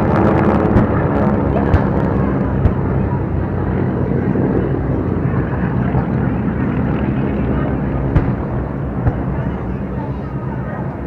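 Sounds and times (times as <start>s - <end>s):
propeller aircraft engine drone: 0.0s - 11.0s.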